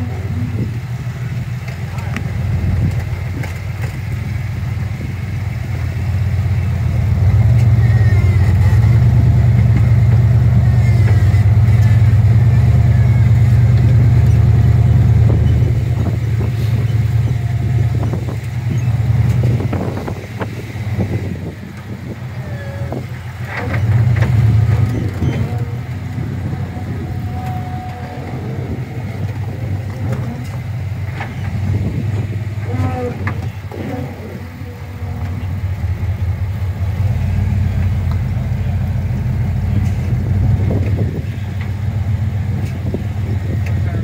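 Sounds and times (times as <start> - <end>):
engine revving under load: 0.0 - 44.0.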